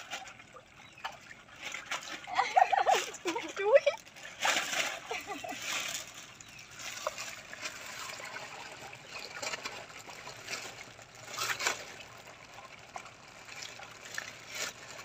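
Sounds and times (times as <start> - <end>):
water sloshing in plastic basin: 0.0 - 15.0
plastic bag rustling: 1.8 - 15.0.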